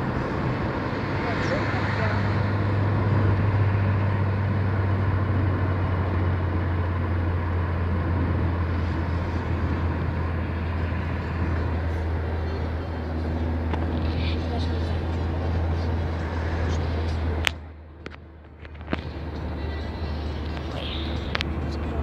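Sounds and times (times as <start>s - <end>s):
car engine drone inside cabin: 0.0s - 22.0s.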